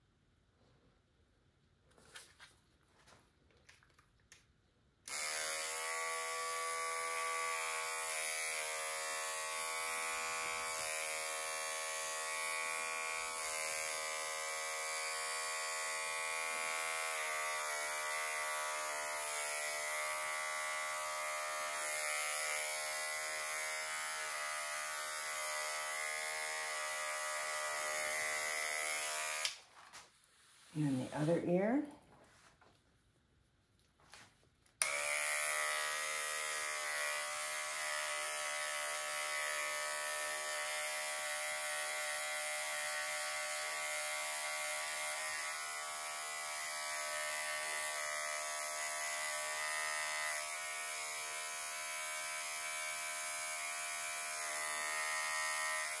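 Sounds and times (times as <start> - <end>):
pet hair trimmer buzzing: 5.1 - 29.7, 34.8 - 56.0.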